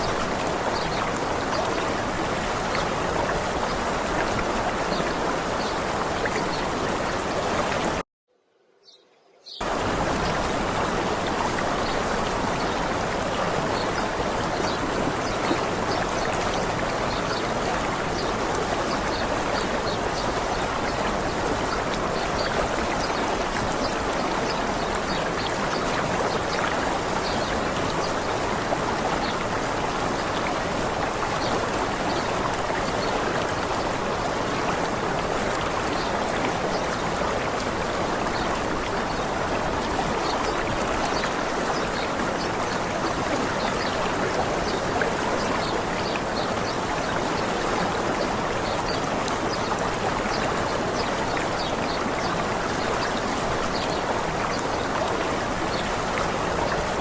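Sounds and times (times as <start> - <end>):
waterfall rushing: 9.6 - 57.0.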